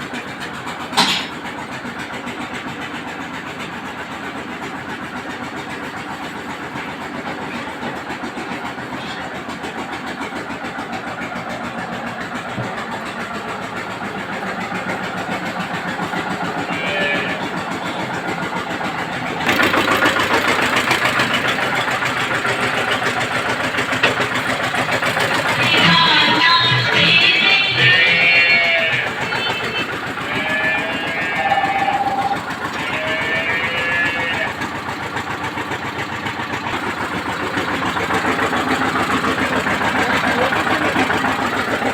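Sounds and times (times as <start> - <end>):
engine chugging: 0.0 - 41.9.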